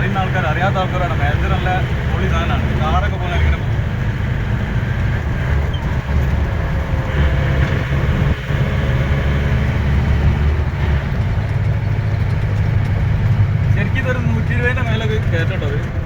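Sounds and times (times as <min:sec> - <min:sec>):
jeep engine rumble: 0:00.0 - 0:16.0
road noise: 0:00.0 - 0:16.0.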